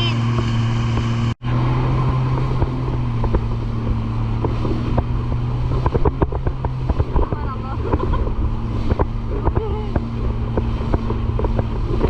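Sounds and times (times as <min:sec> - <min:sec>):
jet ski engine droning: 0:00.0 - 0:12.0
wind and water noise: 0:00.0 - 0:12.0.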